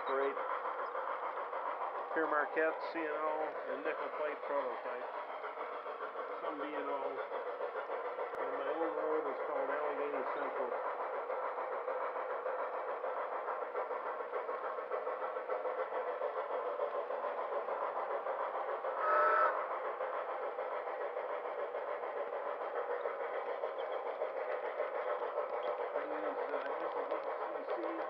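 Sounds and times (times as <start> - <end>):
model train rolling clatter: 0.0 - 28.0.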